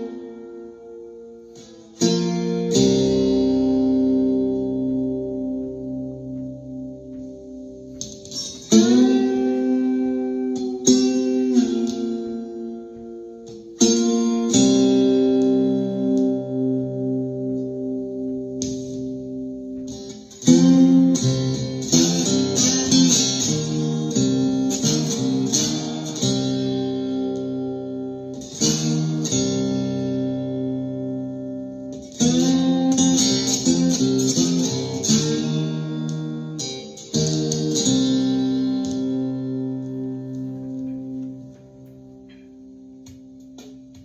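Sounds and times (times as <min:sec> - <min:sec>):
acoustic guitar chords and strums: 0:00.0 - 0:44.0.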